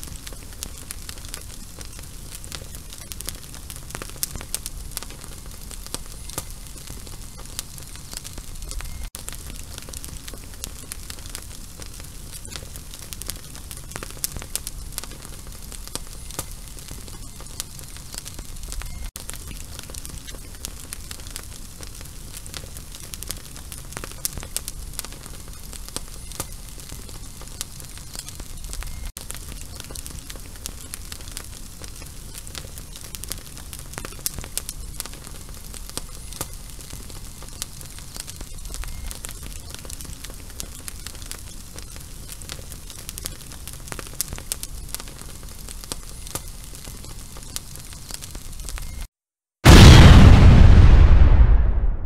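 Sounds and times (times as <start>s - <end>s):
lit fuse sizzling: 0.0s - 49.1s.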